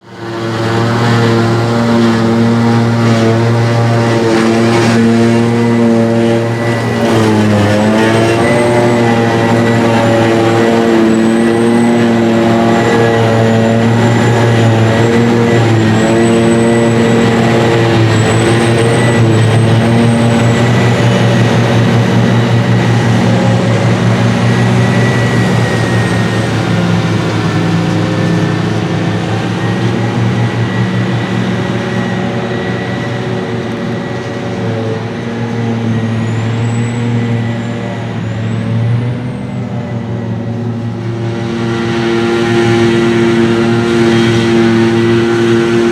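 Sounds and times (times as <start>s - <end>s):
diesel farm machinery running: 0.0s - 45.9s
faint high whine: 0.2s - 45.9s.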